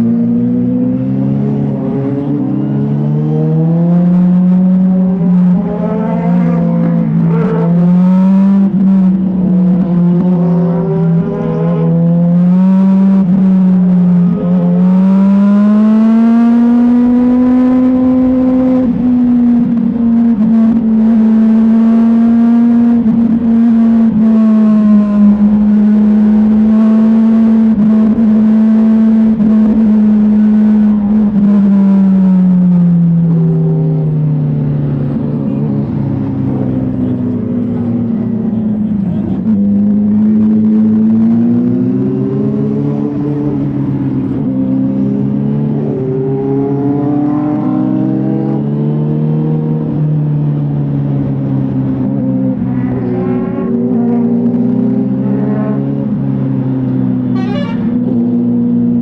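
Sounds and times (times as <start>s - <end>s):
motorcycle engine revving: 0.0s - 59.0s
wind and road rumble: 0.0s - 59.0s.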